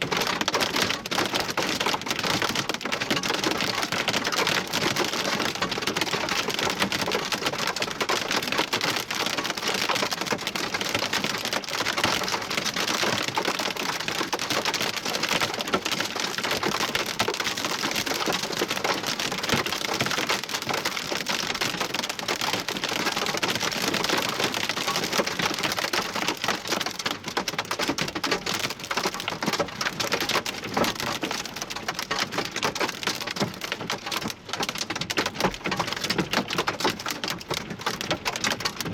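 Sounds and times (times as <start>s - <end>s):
hail and rain pelting: 0.0s - 38.9s.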